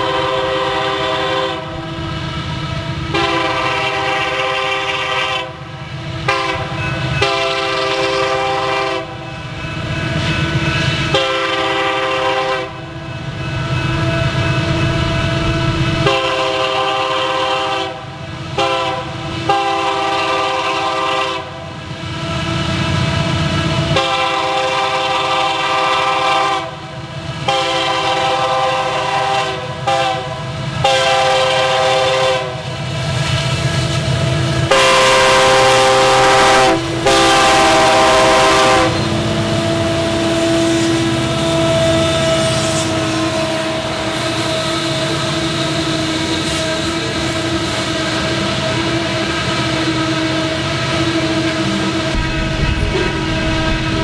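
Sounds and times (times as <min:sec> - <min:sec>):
locomotive air horn blasts: 0:00.0 - 0:01.9, 0:03.1 - 0:21.6, 0:23.9 - 0:32.7, 0:34.6 - 0:54.0
locomotive rumble: 0:00.0 - 0:54.0.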